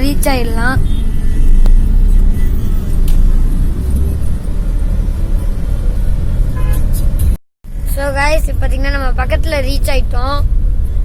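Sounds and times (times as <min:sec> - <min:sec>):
vehicle rumble on road: 0:00.0 - 0:11.0.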